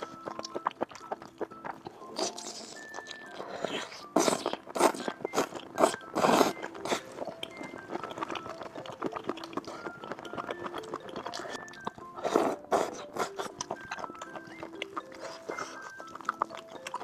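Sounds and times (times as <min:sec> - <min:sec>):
chewing: 0:00.0 - 0:17.0
seafood crunching: 0:00.0 - 0:17.0.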